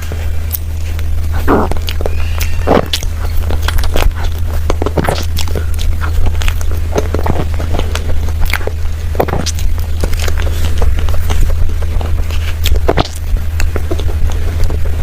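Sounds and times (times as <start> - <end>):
chewing and lip-smacking: 0.0 - 15.0
low hum: 0.0 - 15.0.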